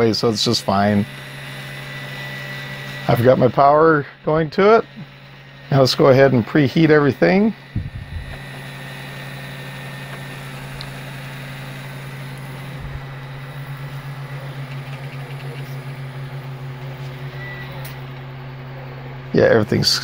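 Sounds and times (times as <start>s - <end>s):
cooling fans humming: 0.0s - 20.0s.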